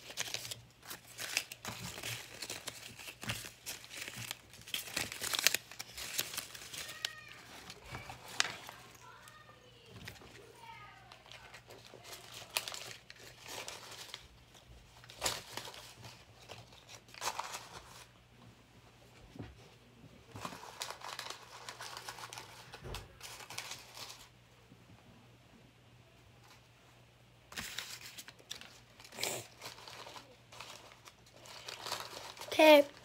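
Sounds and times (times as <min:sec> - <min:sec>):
banknotes rustling and crinkling: 0:00.0 - 0:18.2, 0:20.2 - 0:24.4, 0:27.5 - 0:33.0.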